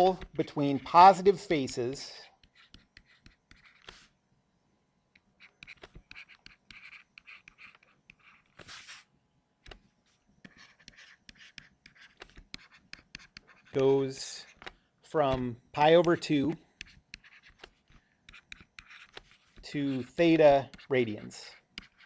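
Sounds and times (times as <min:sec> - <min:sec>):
stylus tapping and scratching on tablet: 0:00.0 - 0:04.2, 0:05.1 - 0:22.0.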